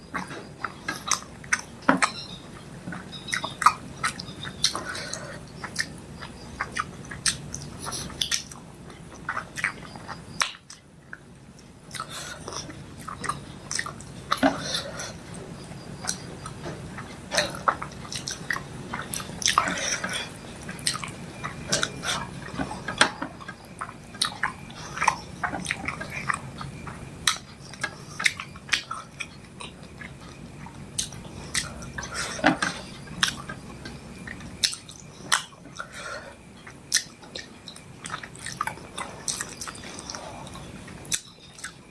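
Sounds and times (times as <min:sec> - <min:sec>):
wet chewing and lip smacks: 0:02.9 - 0:15.4, 0:16.0 - 0:35.9, 0:36.6 - 0:41.9.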